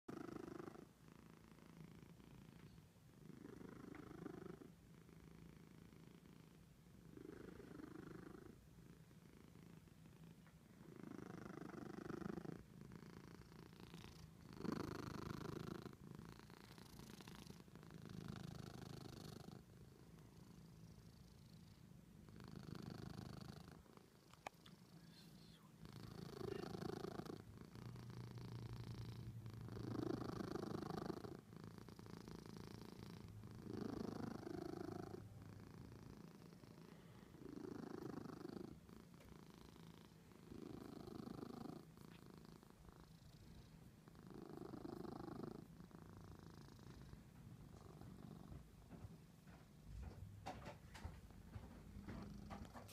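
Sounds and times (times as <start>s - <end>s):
cat purring: 0.1s - 52.9s.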